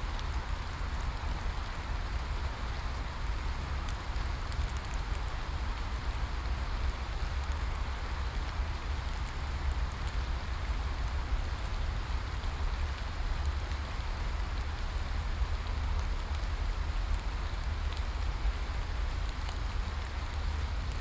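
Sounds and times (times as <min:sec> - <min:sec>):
rain falling: 0:00.0 - 0:21.0
raindrop ticks: 0:00.1 - 0:02.4, 0:03.2 - 0:06.6, 0:07.2 - 0:21.0.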